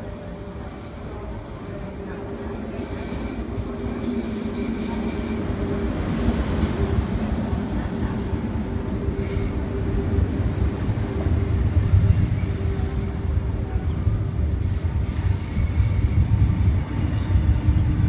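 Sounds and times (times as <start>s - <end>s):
electric train hum: 0.0s - 18.0s
train wheels rumbling on rail: 0.0s - 18.0s.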